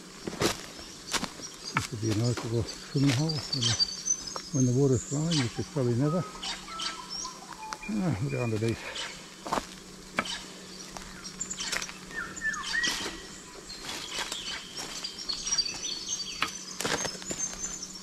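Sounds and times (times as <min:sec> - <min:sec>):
footsteps on dry leaves and stones: 0:00.0 - 0:06.4, 0:07.0 - 0:18.0
birds chirping: 0:00.0 - 0:18.0.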